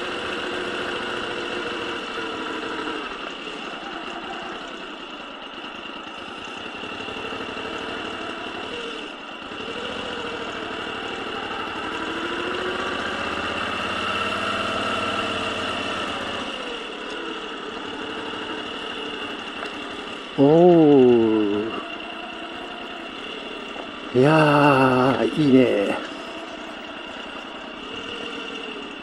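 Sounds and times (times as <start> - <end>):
motorcycle engine at low revs: 0.0 - 29.0.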